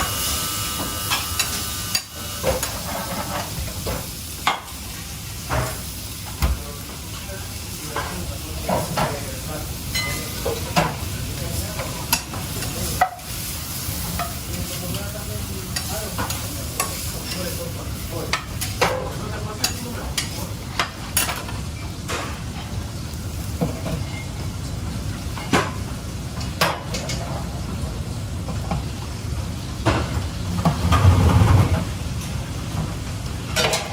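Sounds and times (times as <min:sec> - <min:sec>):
food sizzling in a pan: 0:00.0 - 0:30.6.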